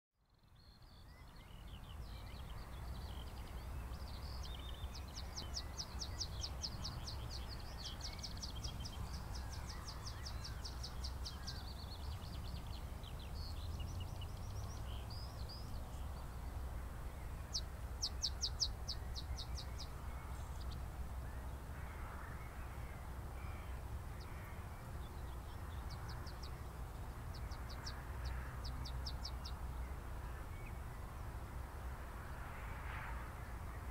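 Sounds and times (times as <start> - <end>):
wind rumble on microphone: 0.5 - 33.9.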